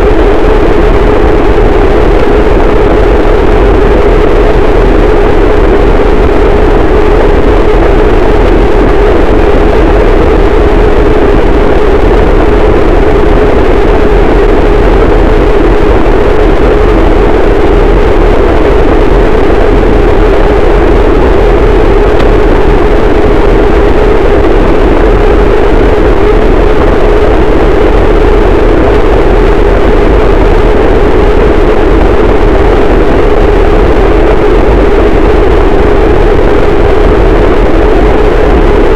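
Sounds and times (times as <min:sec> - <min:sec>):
deep rumble: 0:00.0 - 0:38.9
distorted static noise: 0:00.0 - 0:38.9.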